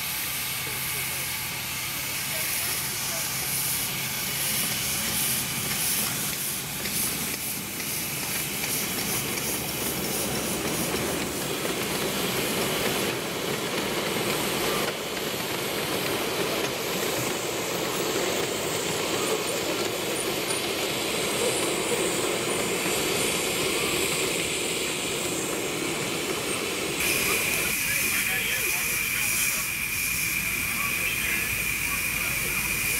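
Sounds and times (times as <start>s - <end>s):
steam hiss: 0.0s - 32.9s
train wheels rumbling on rail: 0.0s - 32.9s.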